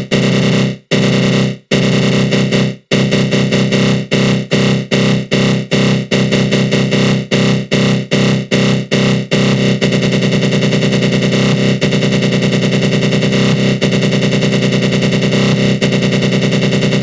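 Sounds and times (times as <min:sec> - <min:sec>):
buzzy pulsing synth growl: 0:00.0 - 0:17.0.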